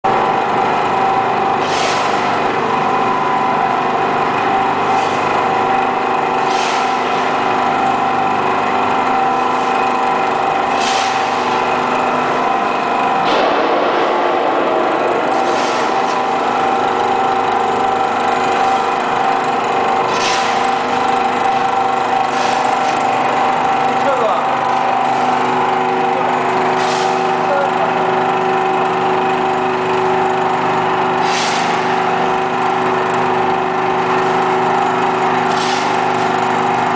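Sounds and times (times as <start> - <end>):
hydraulic press power unit humming: 0.0 - 36.9.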